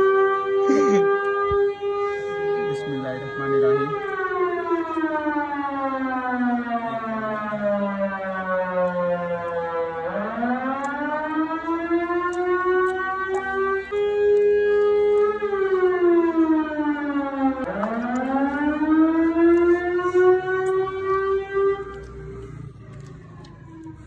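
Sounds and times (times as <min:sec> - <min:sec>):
motor siren wailing: 0:00.0 - 0:24.0.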